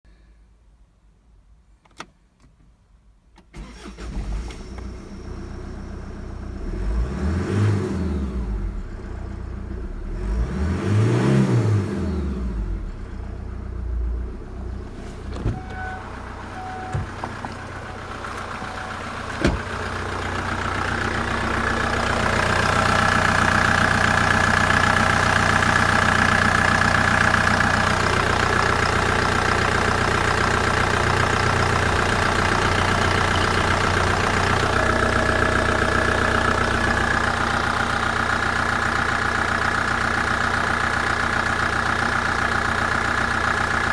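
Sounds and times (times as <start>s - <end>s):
diesel engine starting and revving: 3.5s - 43.9s.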